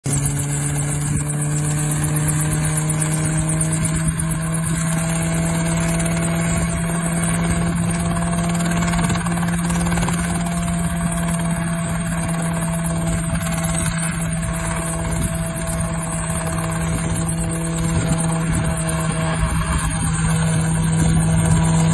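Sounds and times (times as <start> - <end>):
helicopter engine and rotor drone: 0.0 - 21.9.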